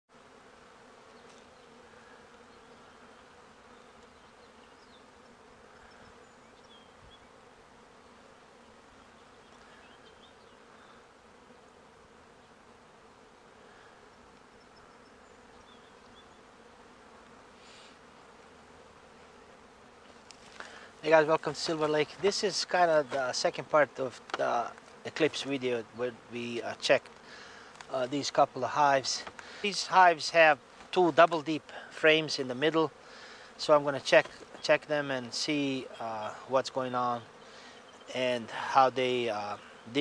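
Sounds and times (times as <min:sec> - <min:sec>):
honey bees humming: 0:00.1 - 0:40.0.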